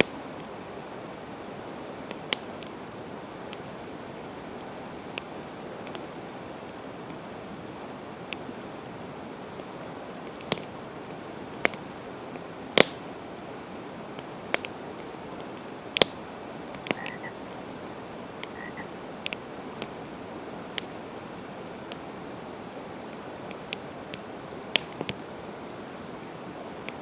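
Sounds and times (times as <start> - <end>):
campfire crackling and popping: 0.0 - 27.0
river rushing: 0.0 - 27.0.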